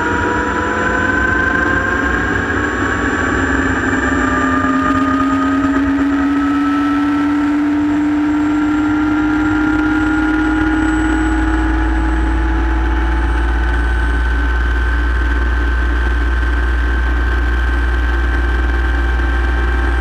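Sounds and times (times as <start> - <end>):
helicopter turbine whine: 0.0 - 20.0.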